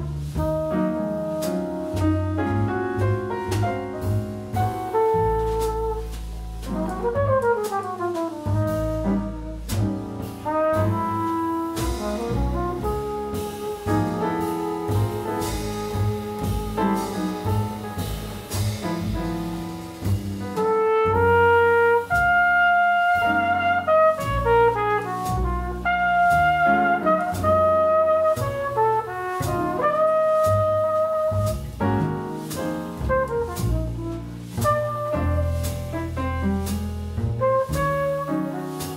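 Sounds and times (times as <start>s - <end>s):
flugelhorn melody: 0.0s - 3.1s, 4.6s - 18.6s, 20.6s - 38.9s
drums: 0.0s - 38.9s
piano: 0.0s - 38.9s
upright double bass: 0.0s - 38.9s.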